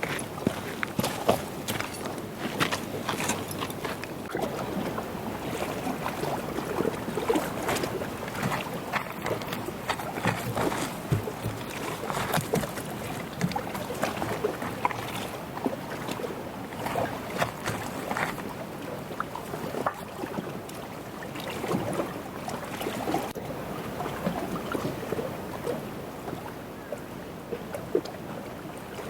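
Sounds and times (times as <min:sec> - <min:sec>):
small waves lapping at shore: 0:00.0 - 0:29.0
wind: 0:00.0 - 0:29.0.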